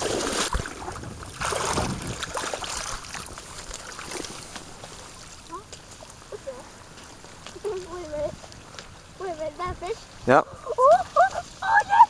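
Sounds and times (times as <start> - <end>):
water splashing around a boat: 0.0 - 12.0.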